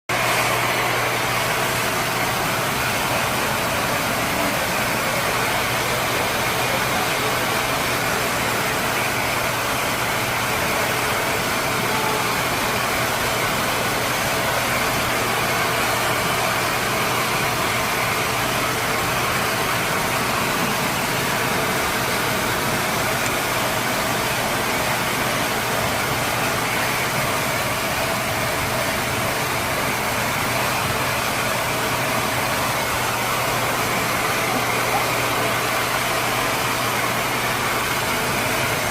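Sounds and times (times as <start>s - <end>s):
blow dryer running: 0.1s - 38.9s.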